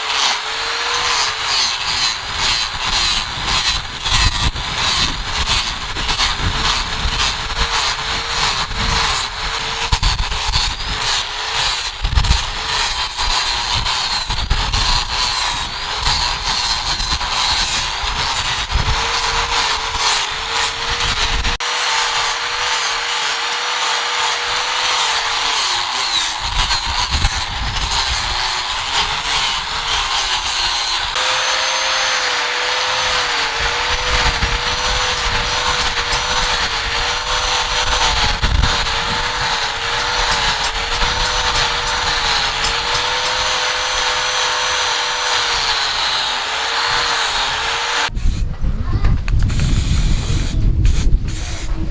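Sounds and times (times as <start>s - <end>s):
power tool rubbing workpiece: 0.0s - 48.5s, 49.4s - 51.9s.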